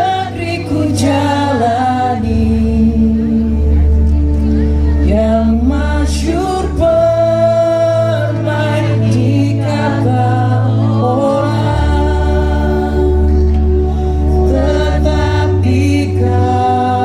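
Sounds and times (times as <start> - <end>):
voices singing together: 0.0 - 4.0, 4.9 - 17.0
sustained bass notes: 0.0 - 17.0.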